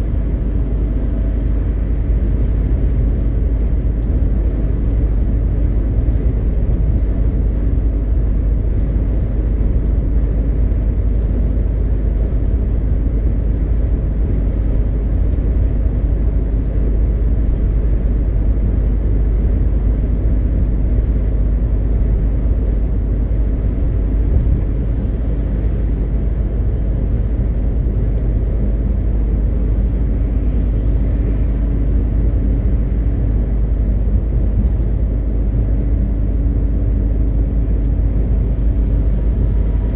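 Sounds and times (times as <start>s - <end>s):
truck diesel engine drone: 0.0s - 39.9s
tyre road rumble: 0.0s - 39.9s.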